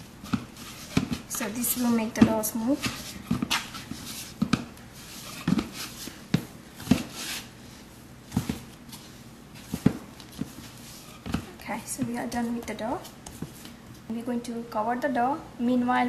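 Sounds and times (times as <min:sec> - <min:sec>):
hands kneading dough: 0:00.0 - 0:14.1.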